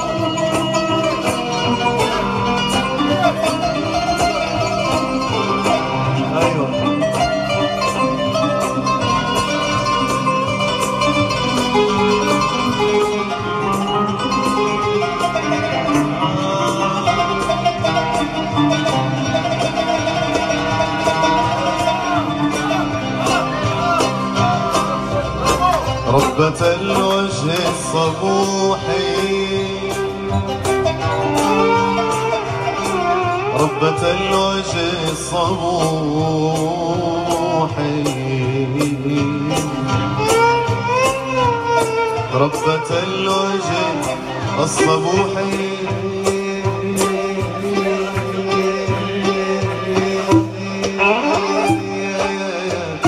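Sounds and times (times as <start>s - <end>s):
man singing into a microphone: 0.0s - 10.5s, 11.8s - 30.7s, 31.6s - 53.0s
bass notes: 0.0s - 53.0s
percussion beat: 0.0s - 53.0s
plucked string instrument melody: 0.0s - 53.0s.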